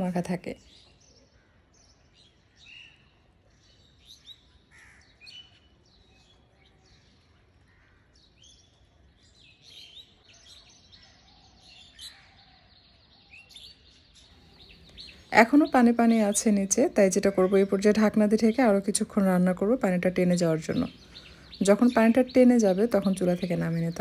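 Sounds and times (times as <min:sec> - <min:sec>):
faint bird chirps: 0:00.2 - 0:24.0.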